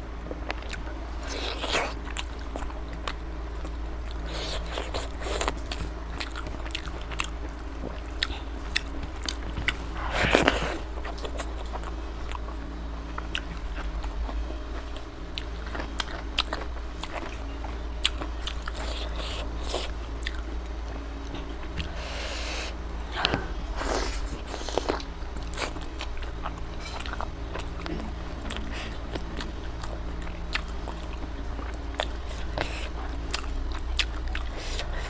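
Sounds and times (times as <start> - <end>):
steady low hum: 0.0 - 35.0
chewing with wet mouth clicks: 0.4 - 21.9, 24.4 - 35.0.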